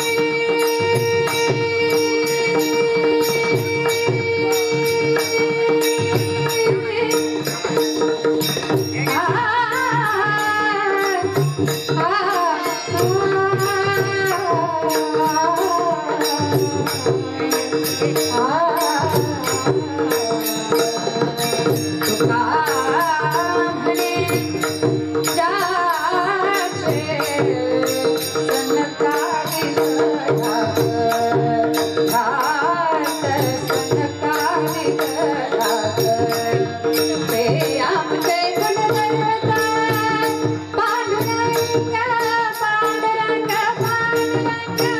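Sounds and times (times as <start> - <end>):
woman singing: 0.0 - 44.9.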